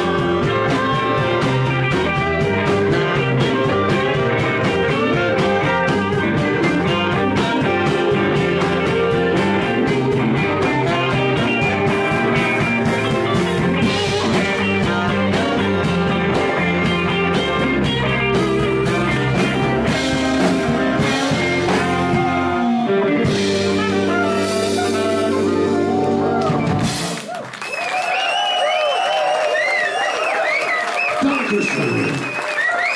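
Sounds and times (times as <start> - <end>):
blues-rock band playing: 0.0 - 27.5.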